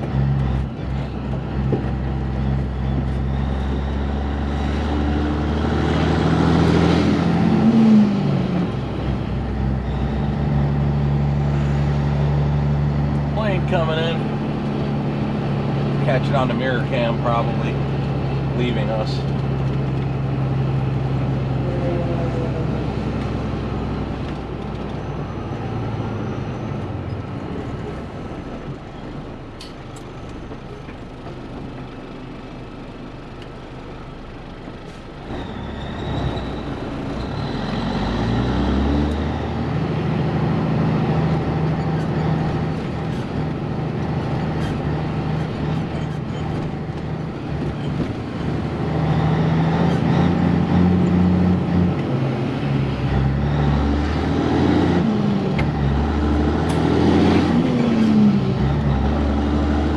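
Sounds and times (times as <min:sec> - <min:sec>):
heavy diesel truck engine: 0:00.0 - 0:59.9.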